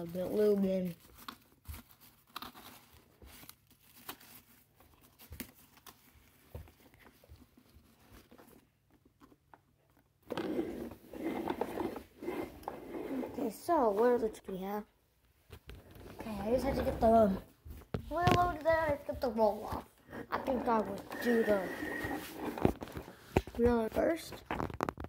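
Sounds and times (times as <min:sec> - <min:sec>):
rustling and crinkling: 0:00.0 - 0:25.0.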